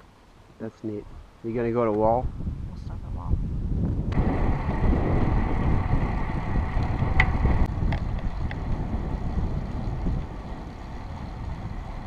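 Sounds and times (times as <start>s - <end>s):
wind rushing over microphone: 1.0s - 12.0s.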